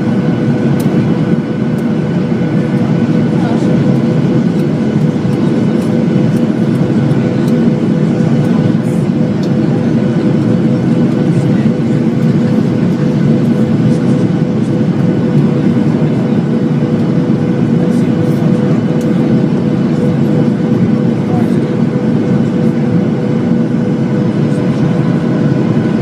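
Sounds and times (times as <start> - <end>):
airliner engines and rushing air: 0.0 - 26.0
constant hum: 0.0 - 26.0.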